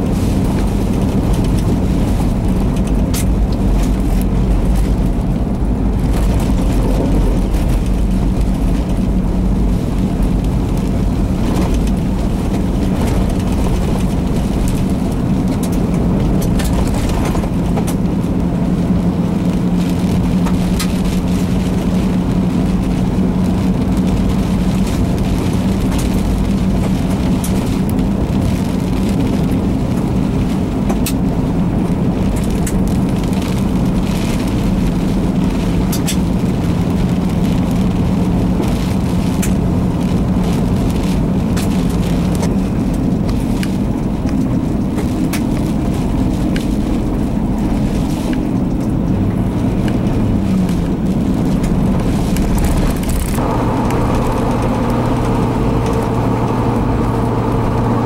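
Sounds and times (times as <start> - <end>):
low wind rumble: 0.0 - 58.0
rain and debris ticking on car: 0.0 - 58.0
vehicle engine and road drone: 0.0 - 58.0.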